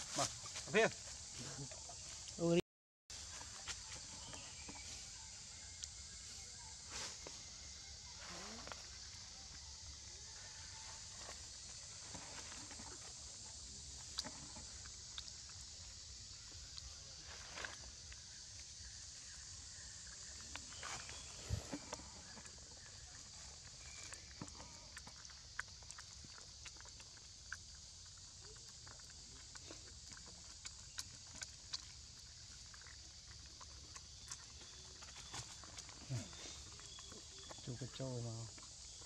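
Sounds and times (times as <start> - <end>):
monkeys sucking at a bottle: 7.5 - 39.0.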